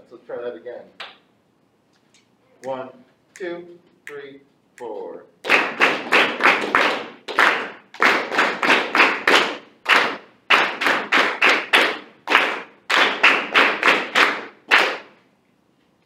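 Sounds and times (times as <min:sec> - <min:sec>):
hands clapping a rhythm: 0:01.0 - 0:01.3, 0:02.6 - 0:15.2.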